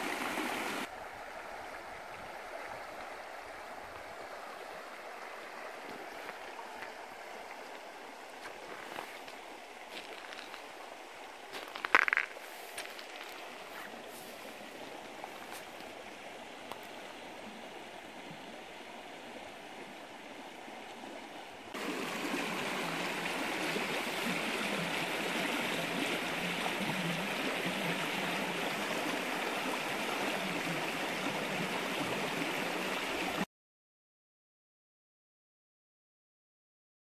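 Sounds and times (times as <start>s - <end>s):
stream flowing over stones: 0.0s - 33.5s
water rushing over boulders: 0.0s - 33.5s.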